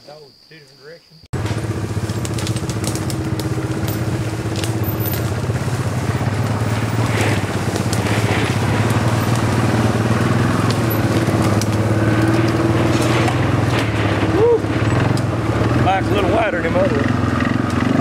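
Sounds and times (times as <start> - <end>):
branches snapping and scraping: 1.4 - 18.0
quad engine running: 1.4 - 18.0.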